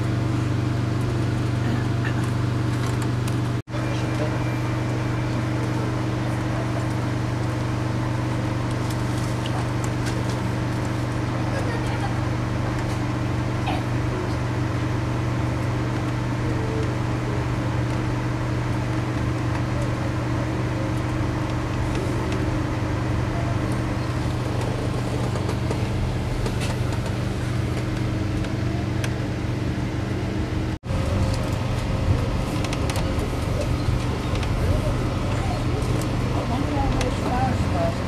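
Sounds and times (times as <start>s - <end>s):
train running noise: 0.0s - 38.0s.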